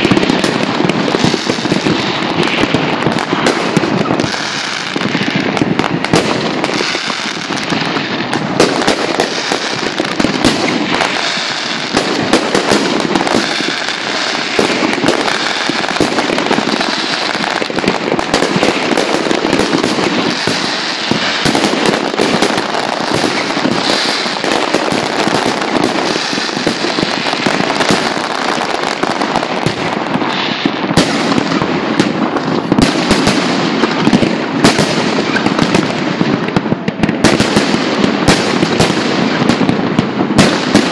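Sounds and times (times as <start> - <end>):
fireworks bursts and bangs: 0.0 - 40.9.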